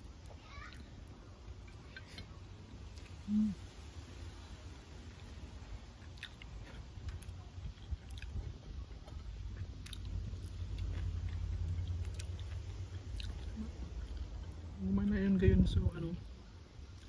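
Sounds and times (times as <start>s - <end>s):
person chewing: 0.0s - 4.0s, 5.0s - 14.7s.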